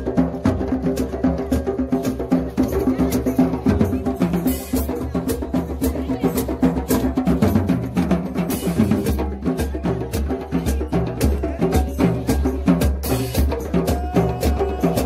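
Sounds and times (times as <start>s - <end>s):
hand drums beating fast rhythm: 0.0s - 15.0s.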